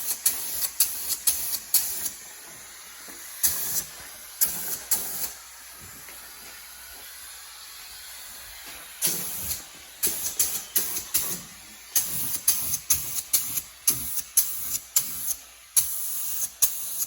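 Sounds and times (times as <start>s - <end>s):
spray gun hissing bursts: 0.0s - 17.0s.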